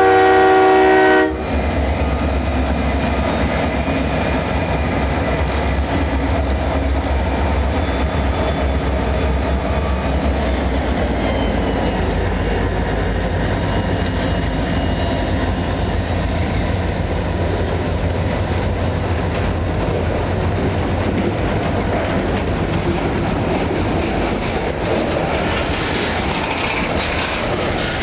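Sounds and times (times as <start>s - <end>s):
boxcars rolling on rails: 0.0s - 28.0s
locomotive engine rumble: 0.0s - 28.0s.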